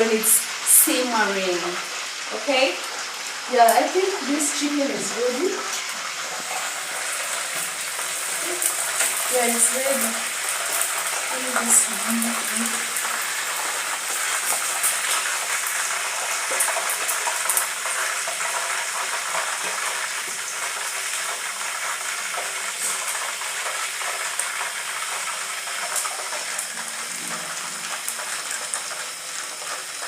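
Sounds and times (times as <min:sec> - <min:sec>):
deep-frying sizzle and popping: 0:00.0 - 0:30.0.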